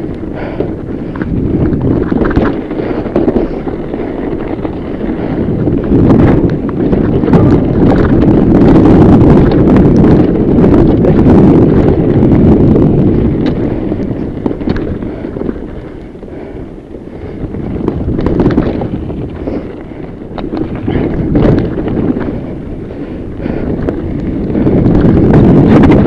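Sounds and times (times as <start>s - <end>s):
bike rattling clicks and knocks: 0.0s - 26.0s
wind buffeting microphone: 0.0s - 26.0s.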